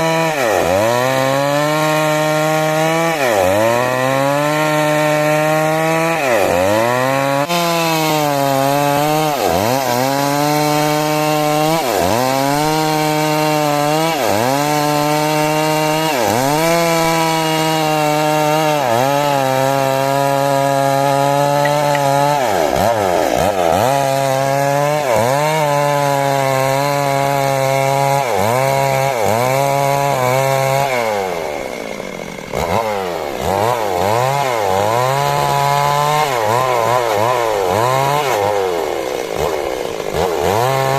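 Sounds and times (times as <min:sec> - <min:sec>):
chainsaw cutting timber: 0:00.0 - 0:40.9.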